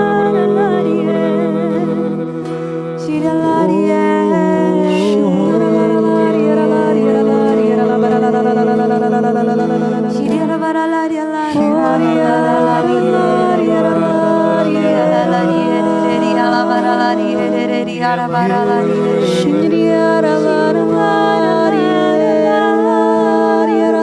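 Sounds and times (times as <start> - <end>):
slow worship singing: 0.0 - 24.0.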